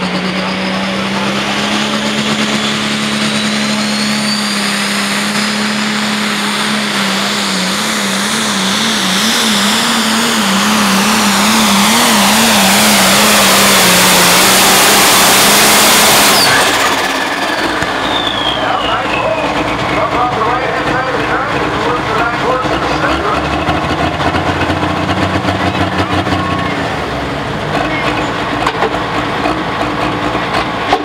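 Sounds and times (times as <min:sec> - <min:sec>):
diesel engine at full throttle: 0:00.0 - 0:31.0
turbocharger whine: 0:00.0 - 0:31.0.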